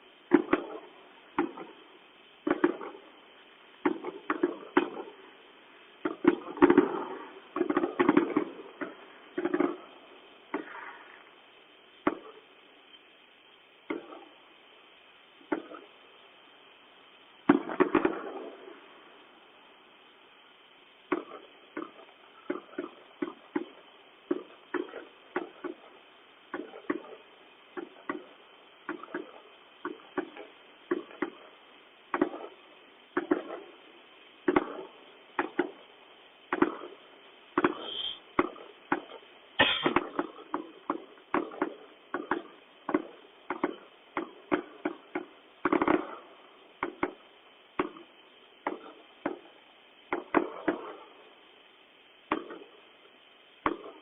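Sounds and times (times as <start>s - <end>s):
fireworks bangs: 0.0s - 51.6s, 52.2s - 54.0s.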